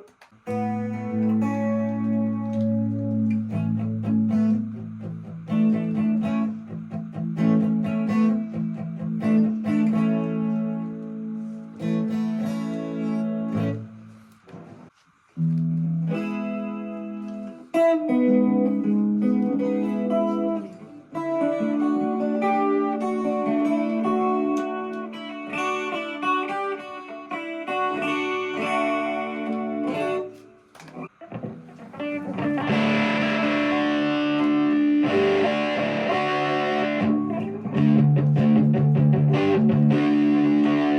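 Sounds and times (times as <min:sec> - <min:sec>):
electric guitar strummed chords: 0:00.0 - 0:40.9.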